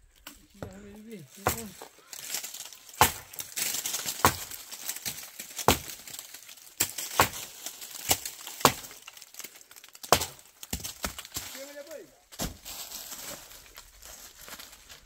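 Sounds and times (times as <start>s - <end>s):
dry wood cracking: 0.0s - 15.0s
twigs rustling: 0.0s - 15.0s.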